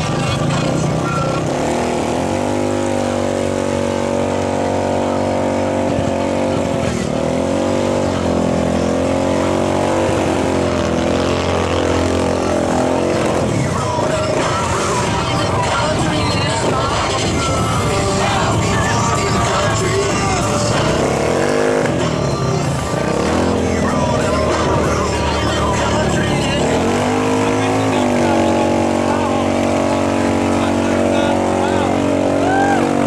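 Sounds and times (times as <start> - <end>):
atv engine revving: 0.0 - 33.0
low engine hum: 0.0 - 33.0.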